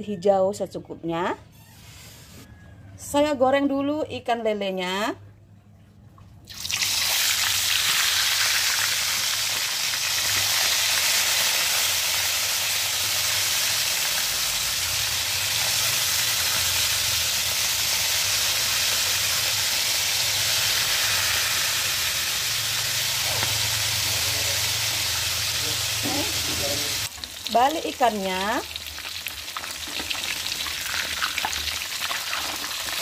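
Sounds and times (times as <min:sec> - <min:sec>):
fish deep-frying in oil: 0:06.5 - 0:33.0.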